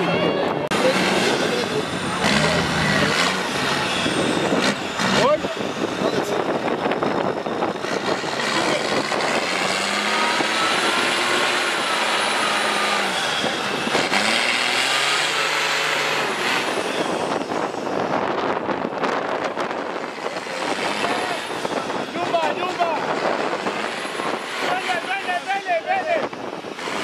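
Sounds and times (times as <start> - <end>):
engine revving hard: 0.7 - 5.6, 7.7 - 17.8, 19.5 - 27.0.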